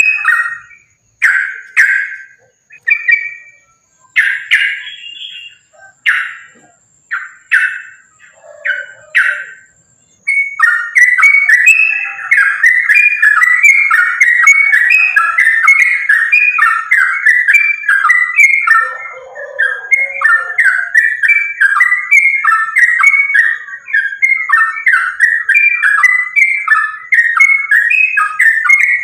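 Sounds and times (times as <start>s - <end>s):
bulbul song: 0.0s - 29.0s.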